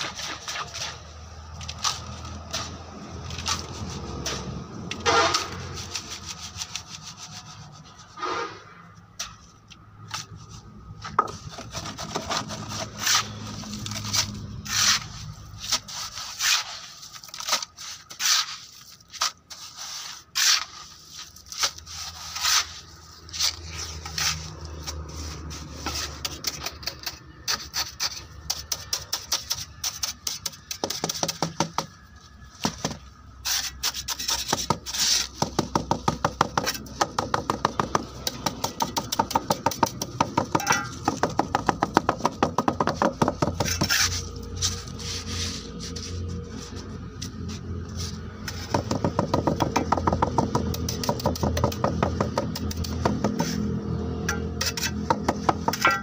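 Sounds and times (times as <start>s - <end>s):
trowel scraping wet concrete: 0.0s - 9.4s, 10.2s - 56.0s.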